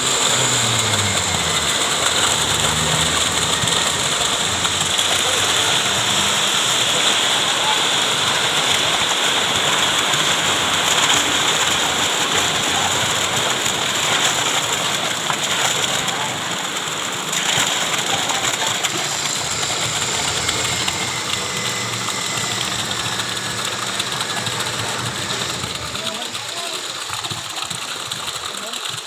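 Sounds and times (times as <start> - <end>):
diesel engine running: 0.0 - 29.0
wet concrete sliding down chute: 0.0 - 29.0.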